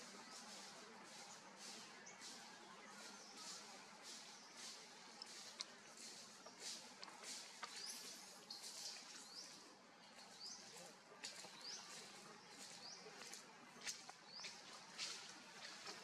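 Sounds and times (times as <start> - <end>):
bird chirping: 2.9 - 15.9.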